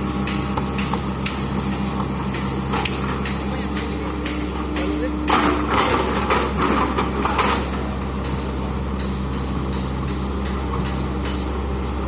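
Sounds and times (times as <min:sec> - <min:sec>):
excavator diesel engine running: 0:00.0 - 0:12.0
metal clanking knocks: 0:00.2 - 0:12.0.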